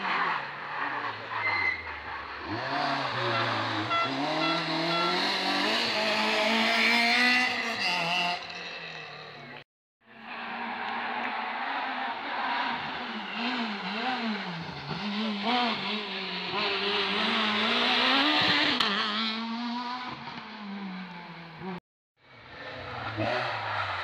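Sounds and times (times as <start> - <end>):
rally car engine revving: 0.0 - 9.6, 10.2 - 24.0.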